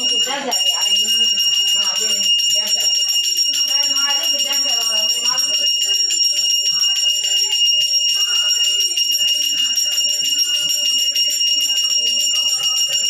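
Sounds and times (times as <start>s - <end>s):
hand bell ringing rapidly: 0.0s - 13.0s.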